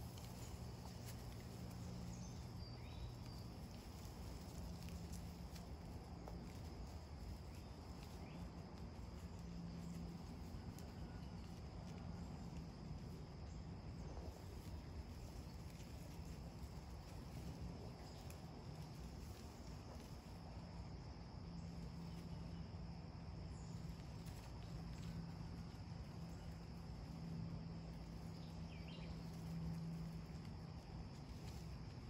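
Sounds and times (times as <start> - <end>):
rustles in leaf litter: 0.0 - 32.0.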